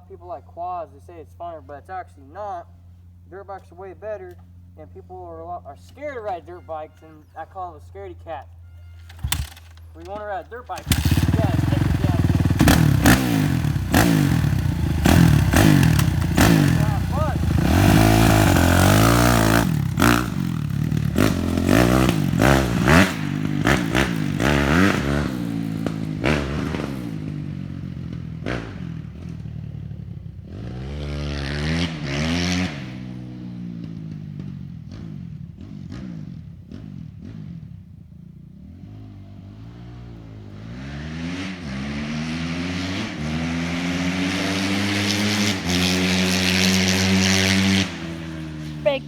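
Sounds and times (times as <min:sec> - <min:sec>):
dirt bike engine revving: 0:09.1 - 0:49.0.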